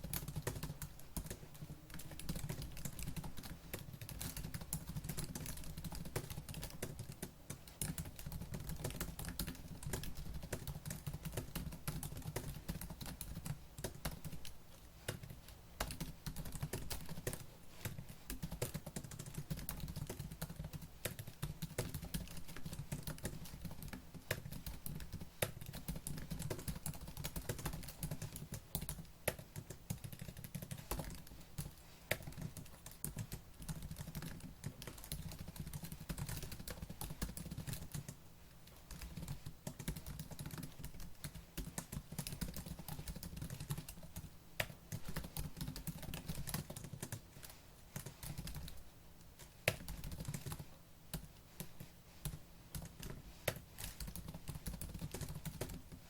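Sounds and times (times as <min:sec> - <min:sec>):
typing on laptop keyboard: 0:00.0 - 0:56.0.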